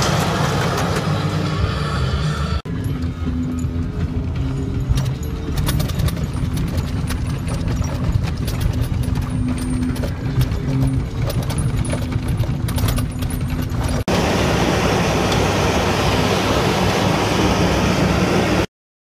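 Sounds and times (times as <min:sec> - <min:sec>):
baler and tractor running: 0:00.0 - 0:18.7.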